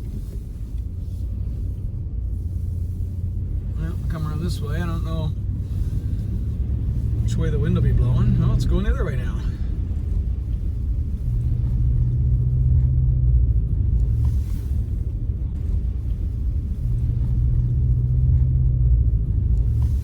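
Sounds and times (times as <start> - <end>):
pickup truck engine rumble: 0.0 - 20.0.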